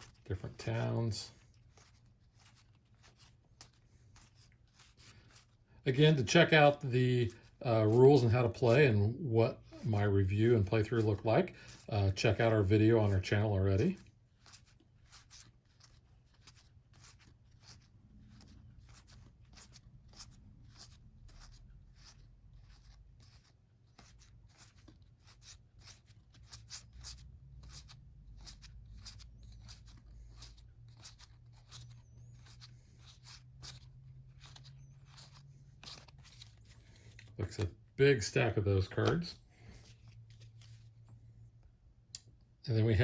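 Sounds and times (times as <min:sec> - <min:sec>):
card decks crinkling and rustling: 0:00.0 - 0:41.2.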